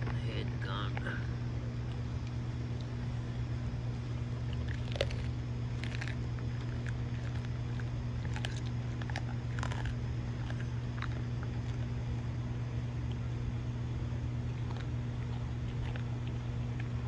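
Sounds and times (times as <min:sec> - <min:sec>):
dog crunching bones: 0:00.0 - 0:17.0
steady low hum: 0:00.0 - 0:17.0.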